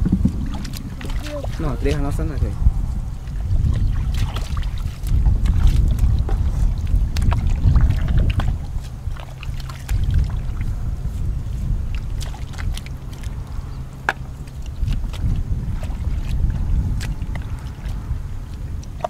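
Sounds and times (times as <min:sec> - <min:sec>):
wind buffeting microphone: 0:00.0 - 0:19.0
hands splashing in muddy water: 0:03.3 - 0:19.0.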